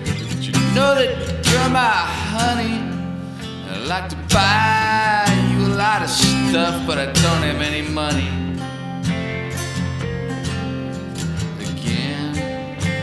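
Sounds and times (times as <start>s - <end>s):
country song with acoustic guitar: 0.0s - 13.0s.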